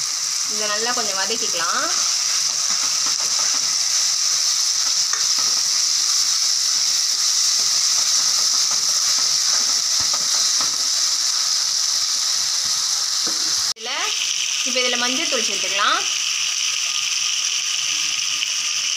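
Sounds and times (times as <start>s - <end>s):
vegetables sizzling in hot oil: 0.0s - 18.9s.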